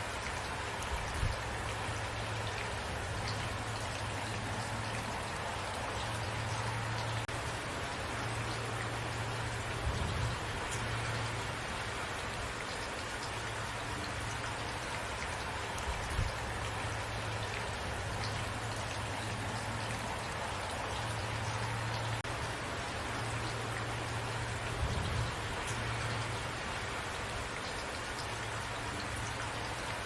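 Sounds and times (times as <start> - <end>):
raindrops ticking: 0.0 - 30.0
steady rain falling: 0.0 - 30.0.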